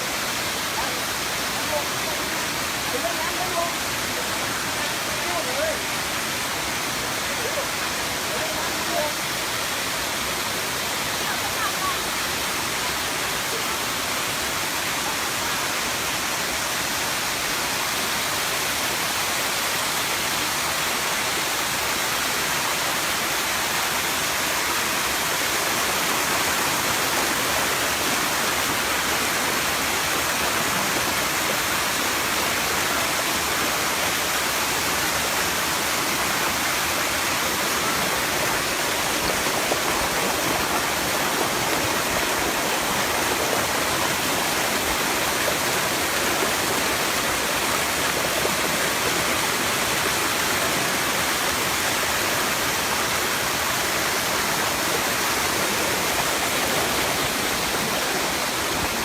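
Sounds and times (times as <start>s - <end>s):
water rushing over waterfall: 0.0s - 59.0s.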